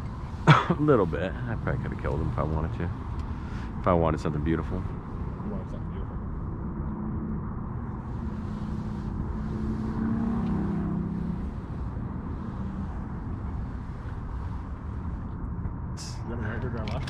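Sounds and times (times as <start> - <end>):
distant engine hum: 0.0 - 17.0.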